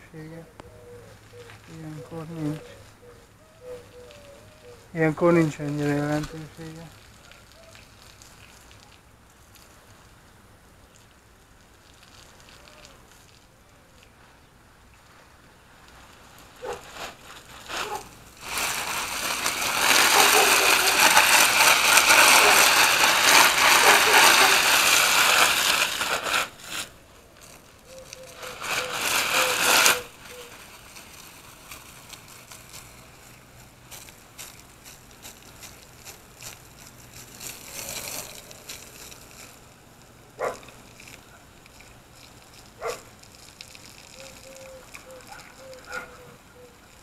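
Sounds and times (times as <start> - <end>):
water spraying from a hose: 3.6 - 47.0.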